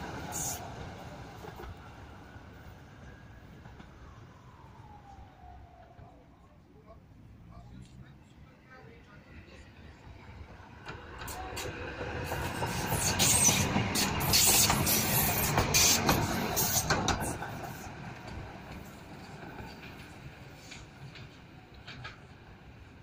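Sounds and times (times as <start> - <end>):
tram running on rails: 0.0 - 23.0.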